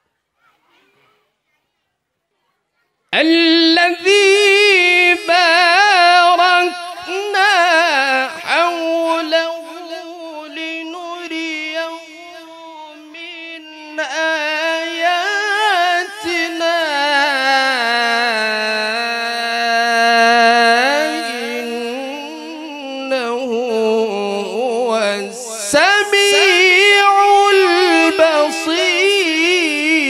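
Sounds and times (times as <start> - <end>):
man reciting melodically into microphone: 3.2 - 30.0.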